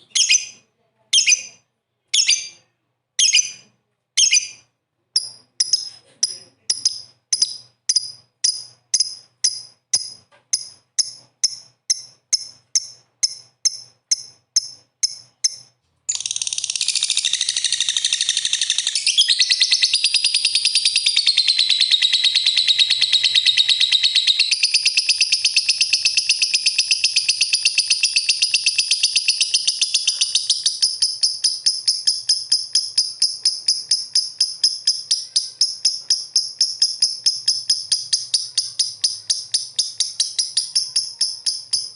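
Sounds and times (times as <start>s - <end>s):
lovebird chirping and chattering: 0.0s - 41.9s.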